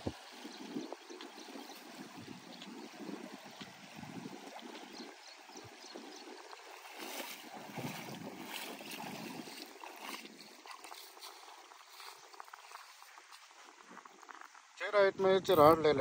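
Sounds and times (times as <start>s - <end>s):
water splashing around legs: 0.0s - 13.8s
wind buffeting microphone: 0.0s - 14.0s.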